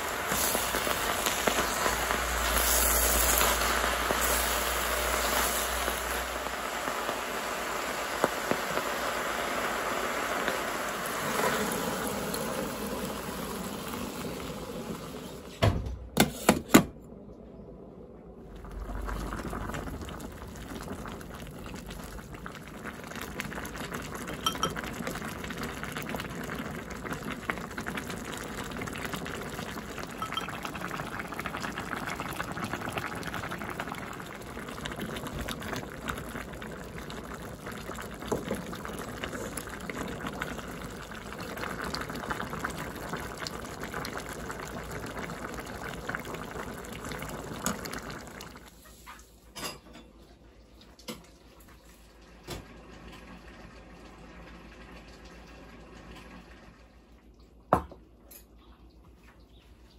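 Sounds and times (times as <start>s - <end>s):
soup boiling with bubbling pops: 0.0s - 15.4s, 18.4s - 49.4s, 50.6s - 58.2s.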